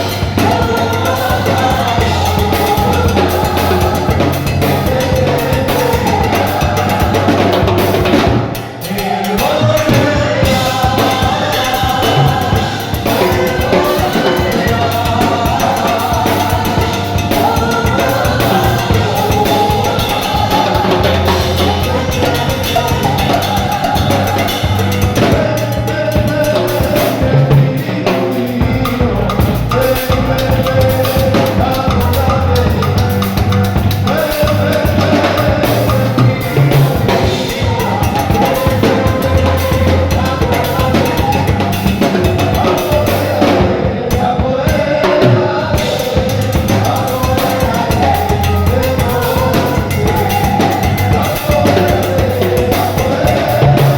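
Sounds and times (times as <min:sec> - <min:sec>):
band with drum kit and bass: 0:00.0 - 0:53.9.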